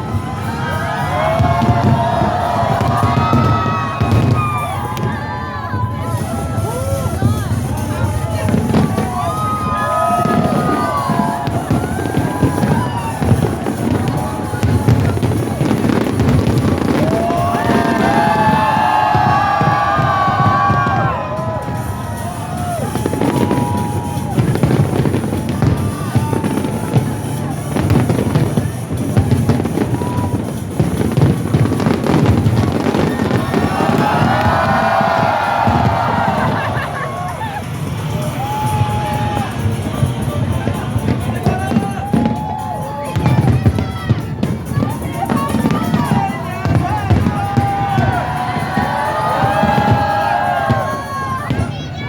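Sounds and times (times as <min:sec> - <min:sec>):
firework booms: 0:00.0 - 0:51.8
firework whistles: 0:00.0 - 0:51.8
firework crackles: 0:00.0 - 0:52.0
music playing: 0:00.0 - 0:52.0.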